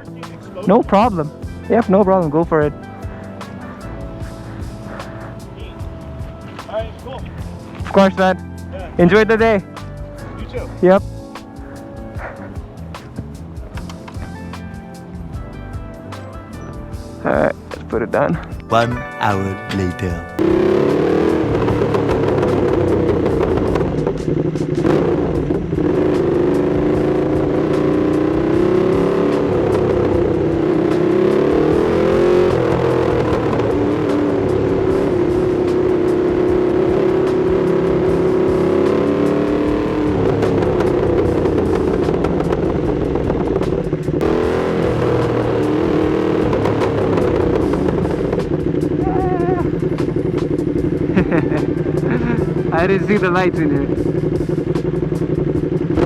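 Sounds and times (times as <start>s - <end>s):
motorcycle engine running: 0.0s - 18.8s, 20.4s - 56.0s.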